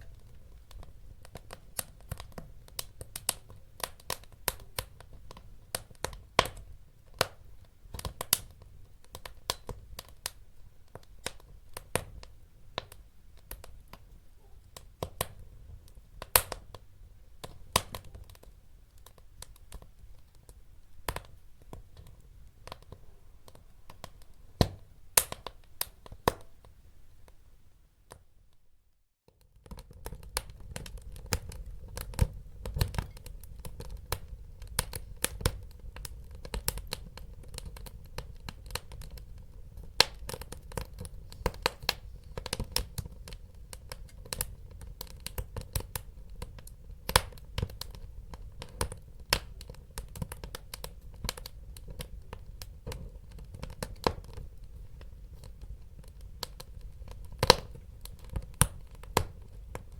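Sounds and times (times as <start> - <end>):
wood fire crackling: 0.0 - 28.2, 29.3 - 59.9.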